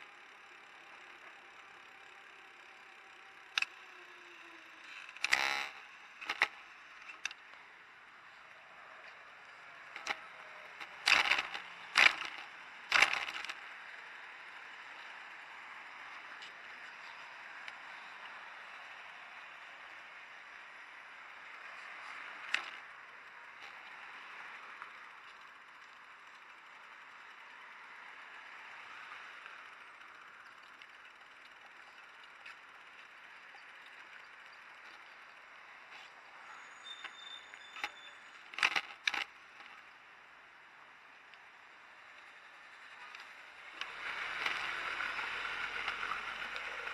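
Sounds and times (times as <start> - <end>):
street traffic hiss: 0.0 - 38.7, 39.4 - 46.9.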